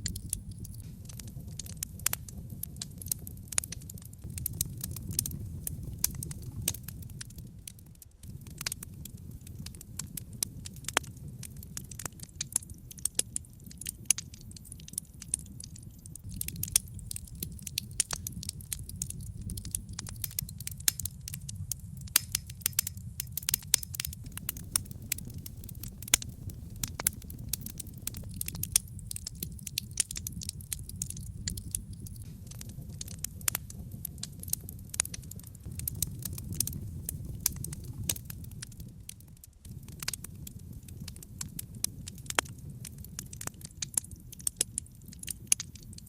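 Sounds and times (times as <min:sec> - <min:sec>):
wood logs crackling in fireplace: 0:00.0 - 0:46.0.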